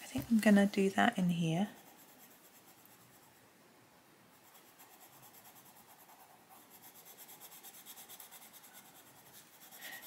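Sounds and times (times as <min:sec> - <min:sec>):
pencil scratching on paper: 0:00.2 - 0:03.4, 0:04.3 - 0:10.0.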